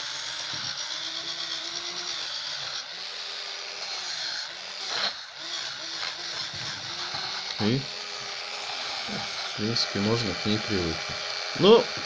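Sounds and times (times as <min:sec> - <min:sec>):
small electric motor whirring: 0:00.0 - 0:12.0.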